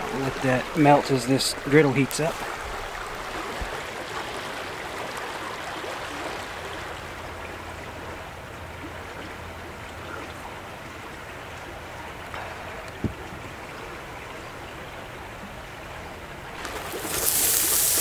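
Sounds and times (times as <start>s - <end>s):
creek water running over rocks: 0.0s - 18.0s.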